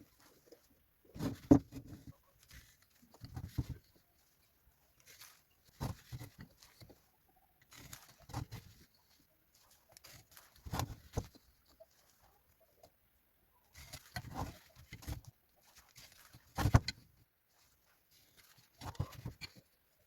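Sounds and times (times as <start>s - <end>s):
handling rustling: 0.0s - 13.0s, 13.7s - 20.0s.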